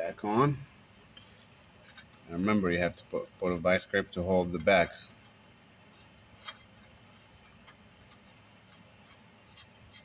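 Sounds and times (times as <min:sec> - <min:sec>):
steady high-pitched hum: 0:00.0 - 0:10.0.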